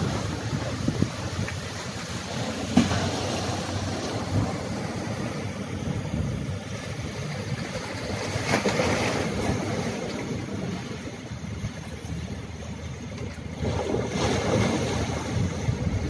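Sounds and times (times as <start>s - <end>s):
waves breaking on shore: 0.0s - 16.0s
wind on microphone: 0.0s - 16.0s.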